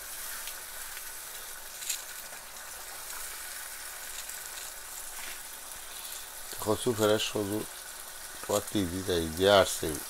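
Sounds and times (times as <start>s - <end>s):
curry sizzling in a wok: 0.0s - 10.0s.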